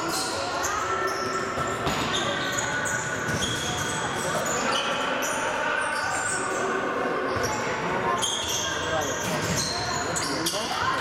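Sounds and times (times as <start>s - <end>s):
shoes squeaking on floor: 0.0s - 6.6s, 7.3s - 11.0s.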